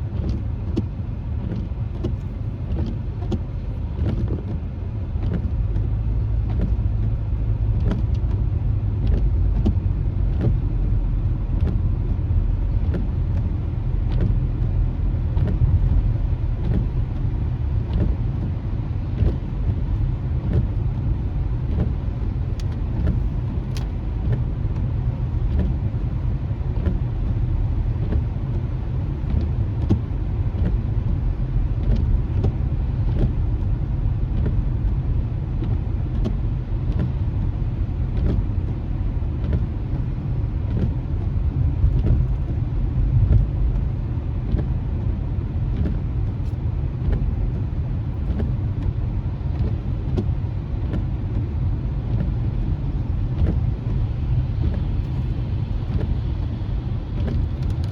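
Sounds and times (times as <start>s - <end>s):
road and engine rumble: 0.0s - 57.9s.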